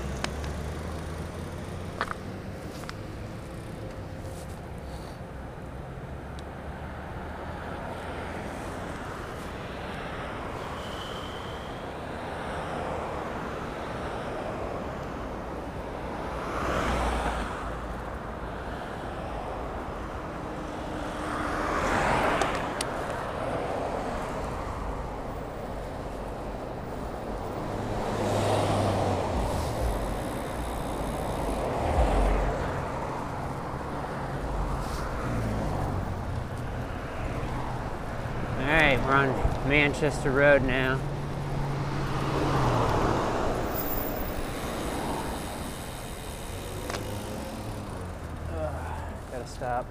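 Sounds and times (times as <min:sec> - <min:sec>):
cars passing close by: 0:00.0 - 0:49.9
road noise: 0:00.0 - 0:49.9.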